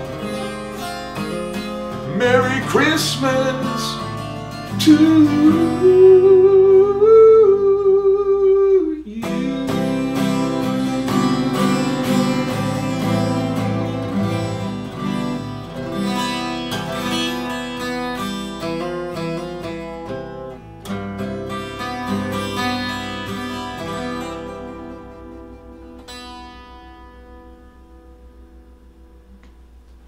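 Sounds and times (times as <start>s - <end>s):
acoustic guitar playing: 0.0s - 30.0s.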